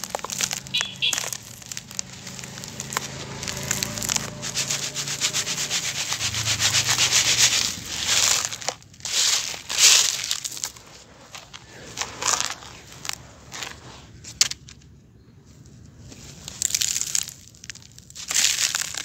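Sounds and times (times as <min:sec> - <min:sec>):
dirt sifting through plastic basket: 0:00.0 - 0:14.7, 0:15.8 - 0:19.0.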